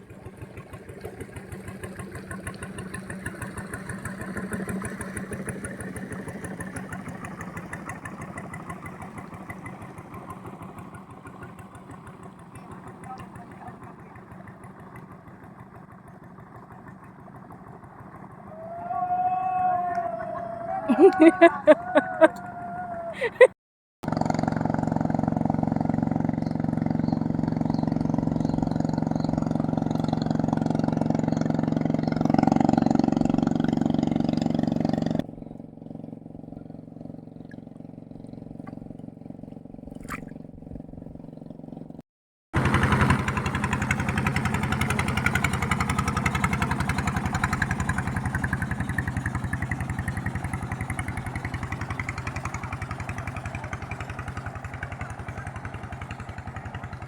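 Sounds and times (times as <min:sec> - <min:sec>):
small engine running: 0:00.0 - 0:42.0, 0:42.6 - 0:57.0.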